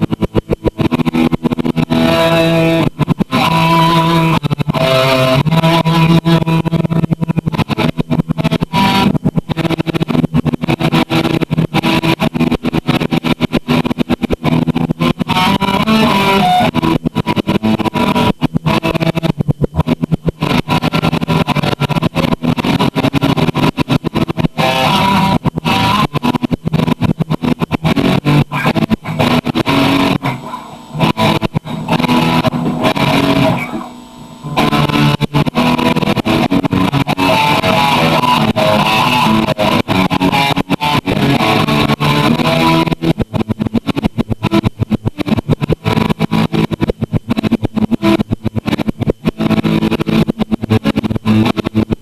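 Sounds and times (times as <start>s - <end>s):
guitar picked notes and chords: 0.0s - 52.0s.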